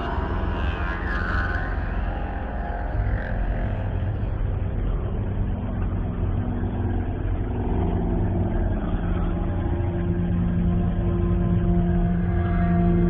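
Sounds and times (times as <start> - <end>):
dark ambient drone music: 0.0 - 13.0.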